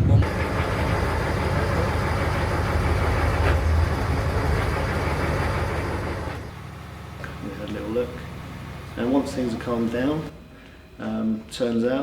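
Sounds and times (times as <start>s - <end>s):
boat engine running: 0.0s - 10.2s.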